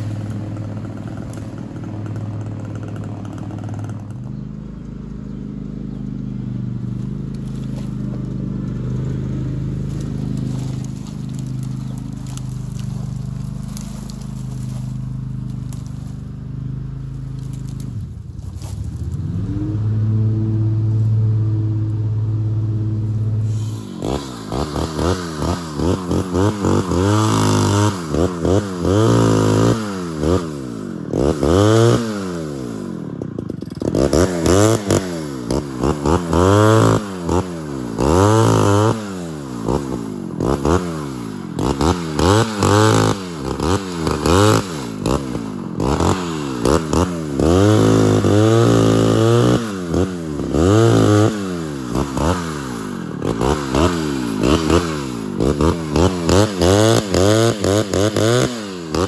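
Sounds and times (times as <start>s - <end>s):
chainsaw revving: 0.0s - 59.0s
engine idling: 0.0s - 59.0s.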